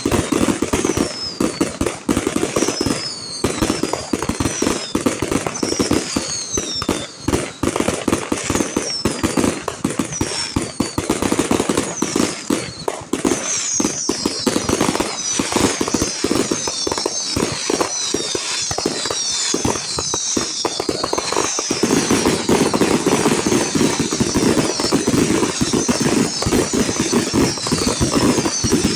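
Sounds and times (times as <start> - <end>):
falling firework whistles: 0.0 - 28.9
fireworks bangs and crackles: 0.0 - 28.9.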